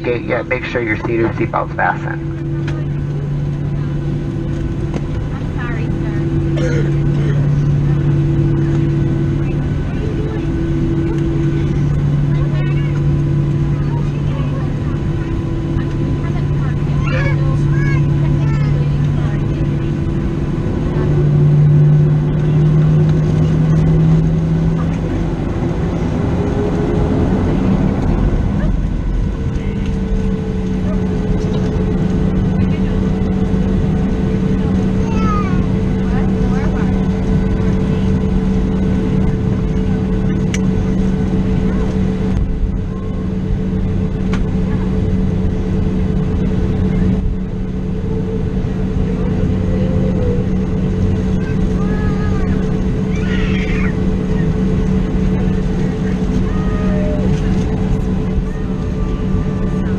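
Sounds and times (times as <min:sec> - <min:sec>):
airplane cabin engine rumble: 0:00.0 - 0:59.9
strong low hum: 0:00.0 - 0:59.9.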